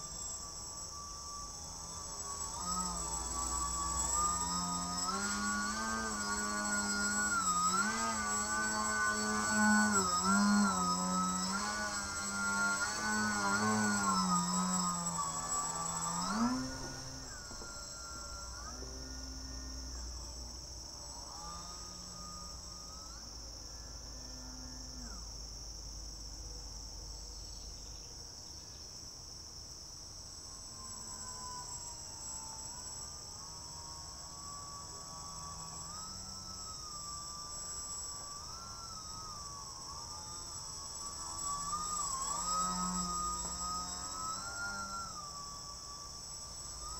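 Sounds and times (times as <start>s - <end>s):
faint pitch-shifting whine: 0.0s - 46.9s
high-pitched insect chorus: 0.0s - 46.9s.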